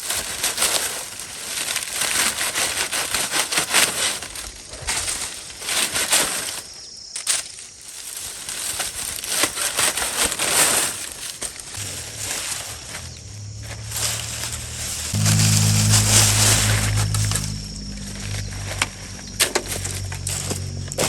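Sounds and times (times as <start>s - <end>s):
dry material crunching: 0.0s - 21.0s.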